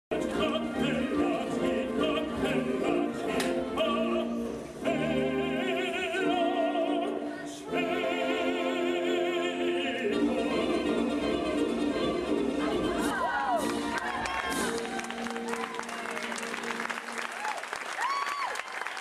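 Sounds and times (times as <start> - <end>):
operatic singing with vibrato: 0.1 - 15.4.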